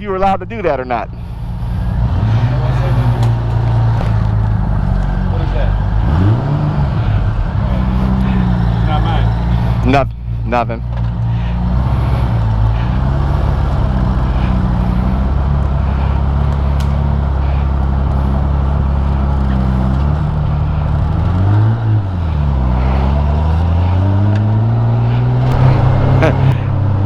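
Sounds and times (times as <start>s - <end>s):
motorcycle engine running: 1.1s - 27.0s.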